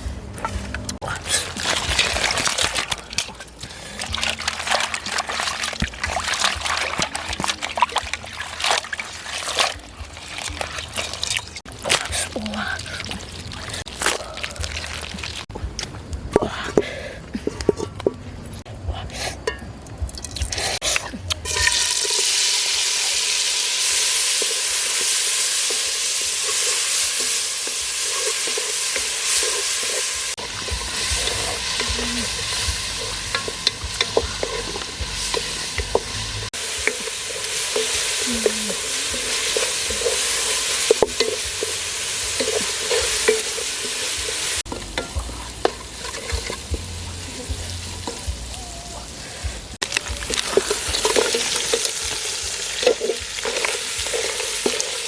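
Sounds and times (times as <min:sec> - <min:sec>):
utensil stirring clicks and scrapes: 0:00.4 - 0:15.5, 0:23.8 - 0:49.2, 0:49.8 - 0:55.0
food sizzling in a pan: 0:01.0 - 0:15.5, 0:21.4 - 0:55.0.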